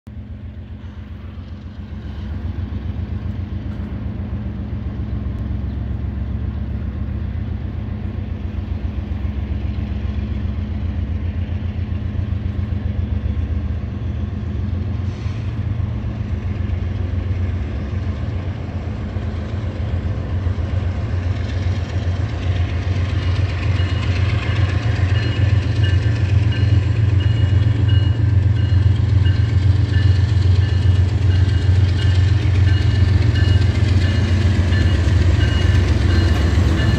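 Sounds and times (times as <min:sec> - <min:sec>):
diesel locomotive engine rumble: 0:00.1 - 0:36.9.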